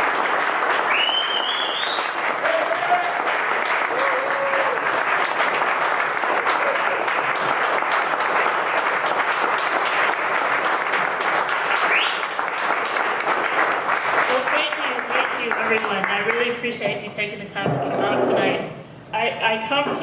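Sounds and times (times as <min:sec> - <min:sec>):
audience applauding: 0:00.0 - 0:16.5.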